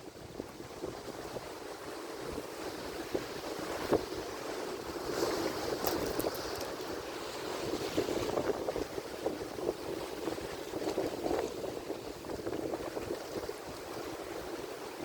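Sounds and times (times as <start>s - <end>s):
ocean waves washing: 0.1s - 15.0s.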